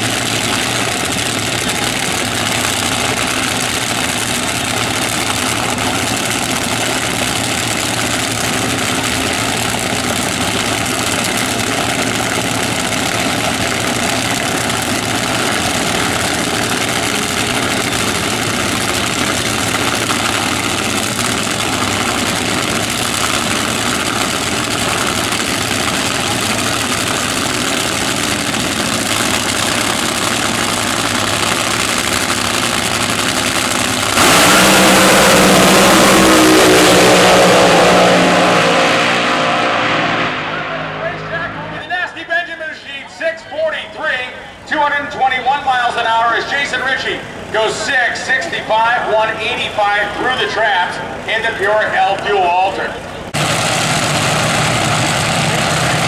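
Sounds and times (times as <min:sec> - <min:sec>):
dragster engines idling: 0:00.0 - 0:56.0.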